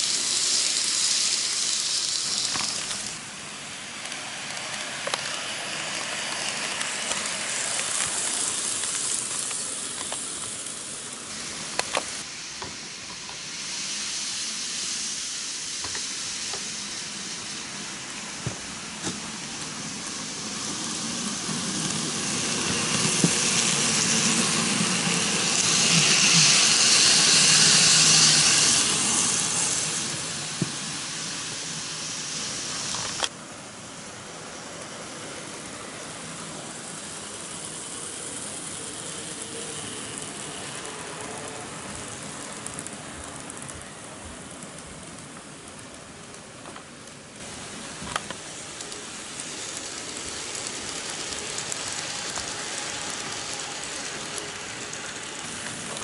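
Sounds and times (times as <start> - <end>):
model train wheels and motors hissing: 0.0 - 56.0.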